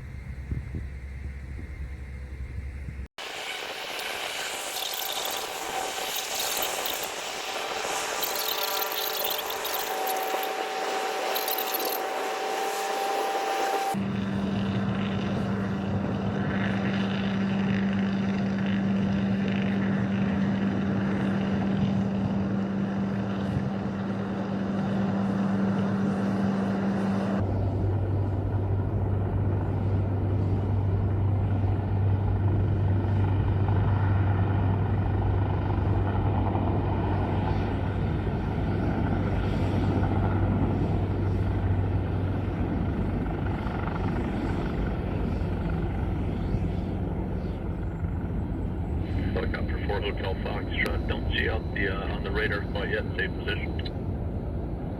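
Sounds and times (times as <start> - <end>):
aircraft engines droning: 0.0 - 54.9.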